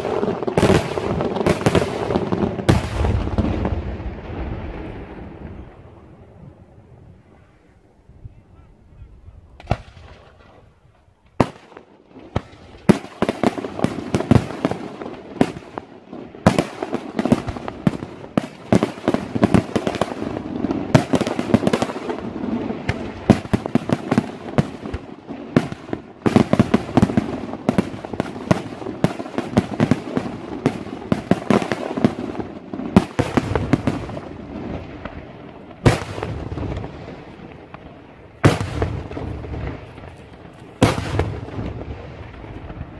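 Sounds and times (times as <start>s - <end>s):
fireworks bangs: 0.0s - 6.5s, 9.6s - 42.9s.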